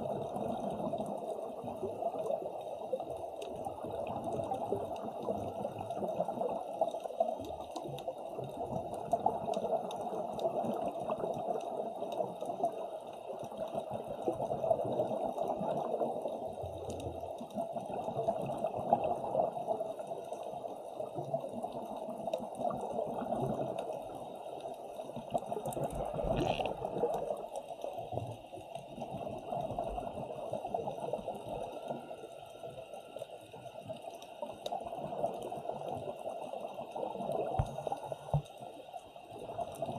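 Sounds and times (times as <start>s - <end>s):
underwater water rushing: 0.0s - 39.9s.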